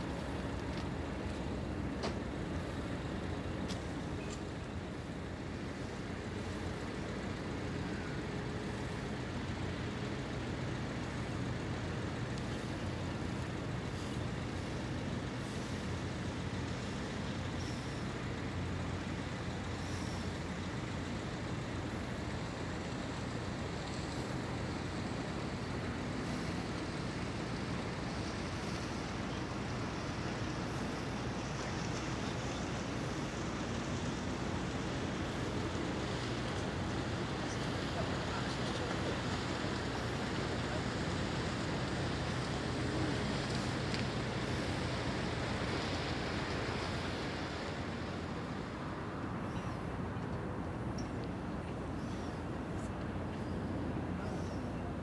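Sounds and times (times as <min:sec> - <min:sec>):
faint hiss: 0:00.0 - 0:55.0
low engine rumble: 0:00.0 - 0:55.0.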